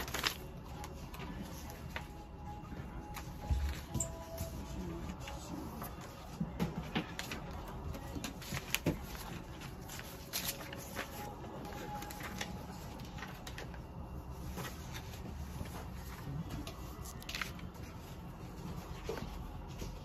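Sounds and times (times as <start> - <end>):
paper sheets rustling: 0.0 - 20.0.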